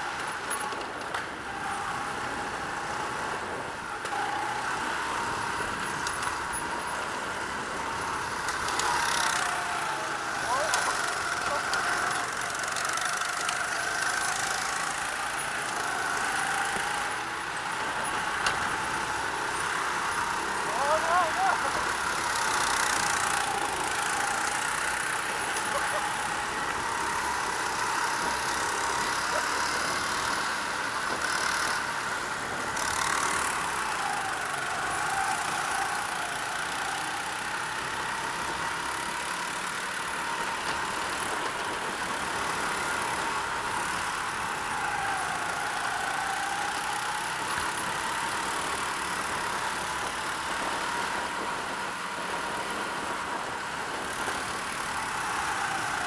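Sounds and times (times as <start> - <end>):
go-kart engine drone: 0.0 - 56.0.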